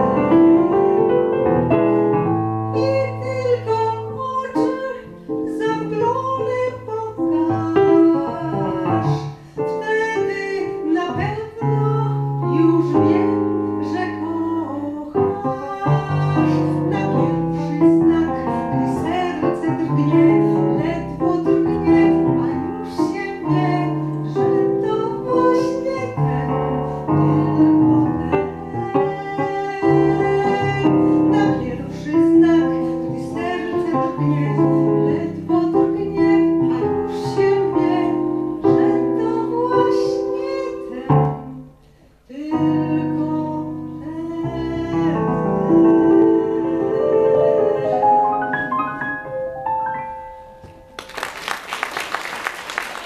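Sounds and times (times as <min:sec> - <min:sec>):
piano accompaniment: 0:00.0 - 0:53.0
woman singing into microphone: 0:02.7 - 0:49.0.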